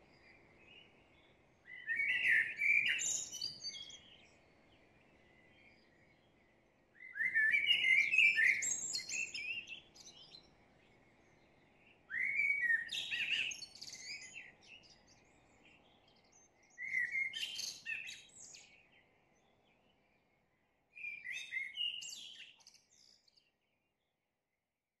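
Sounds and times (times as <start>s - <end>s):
songbird chirping and whistling: 0.7s - 6.4s, 7.0s - 19.6s, 21.0s - 23.5s.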